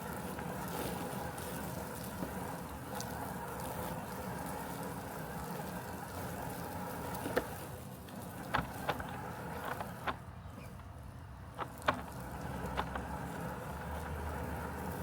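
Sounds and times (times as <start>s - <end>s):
robotic lawn mower humming: 0.0s - 15.0s.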